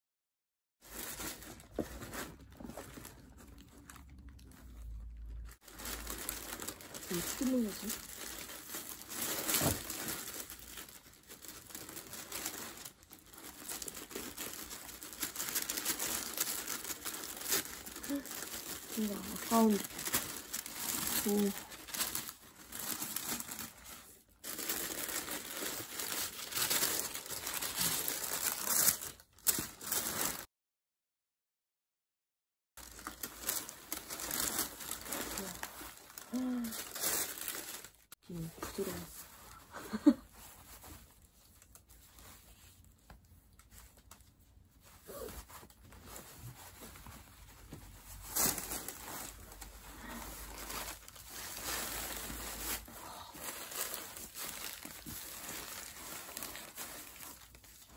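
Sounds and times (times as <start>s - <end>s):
tissue paper rustling and crinkling: 0.8s - 30.5s, 32.8s - 57.9s.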